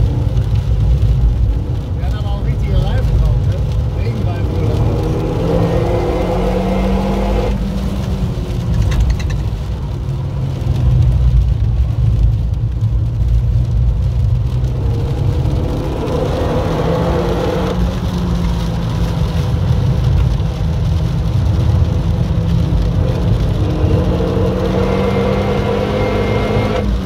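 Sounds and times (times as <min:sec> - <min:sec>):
car engine revving: 0:00.0 - 0:27.0
rain and spray hissing: 0:00.0 - 0:27.0
road and tyre rumble: 0:00.0 - 0:27.0.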